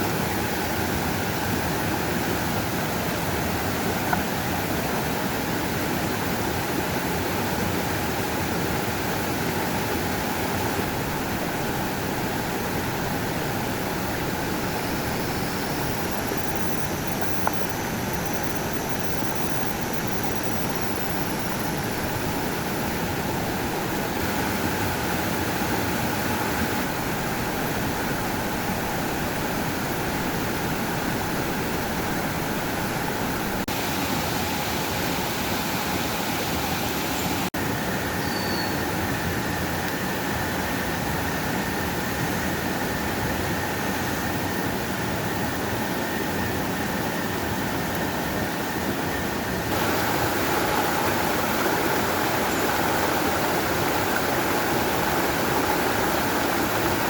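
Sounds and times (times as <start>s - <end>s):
flowing water rushing: 0.0s - 37.5s, 44.6s - 57.0s.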